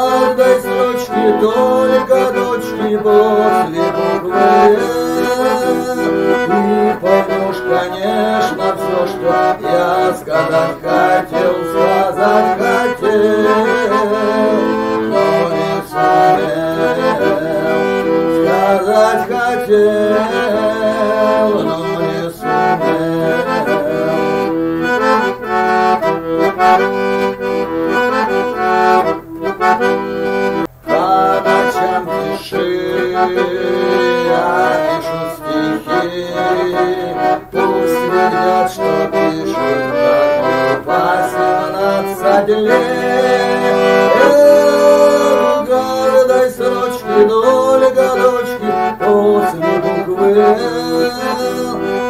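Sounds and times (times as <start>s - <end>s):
button accordion playing melody: 0.0s - 52.0s.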